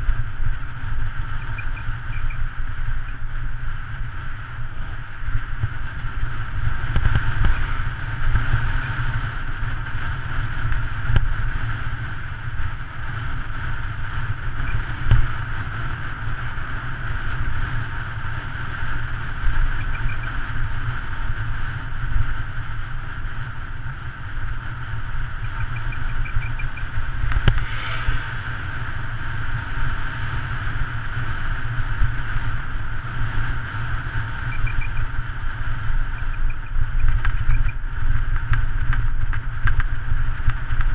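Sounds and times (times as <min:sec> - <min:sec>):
road and tyre noise: 0:00.0 - 0:40.9
wind buffeting microphone: 0:00.0 - 0:40.9.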